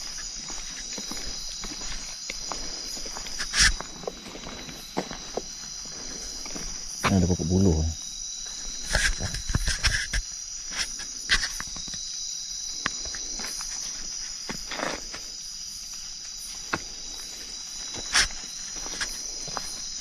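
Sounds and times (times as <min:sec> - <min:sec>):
crickets and insects trilling: 0:00.0 - 0:20.0
footsteps crunching on ground: 0:00.0 - 0:20.0.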